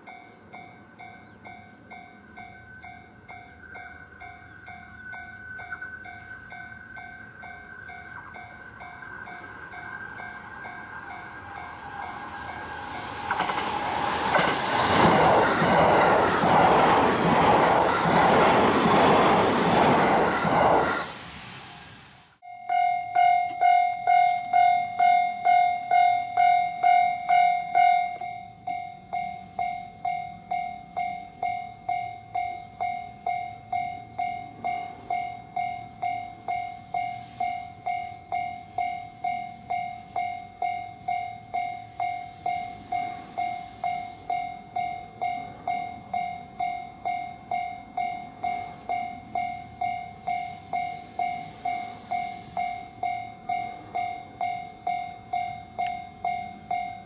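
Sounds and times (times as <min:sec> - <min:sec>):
level-crossing warning bell ringing: 0:00.0 - 0:21.0, 0:22.4 - 0:57.0.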